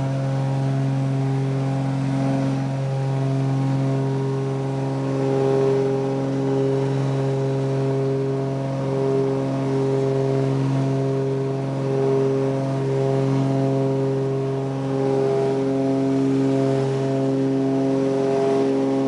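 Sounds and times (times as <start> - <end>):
twin propeller engines droning: 0.0 - 19.0.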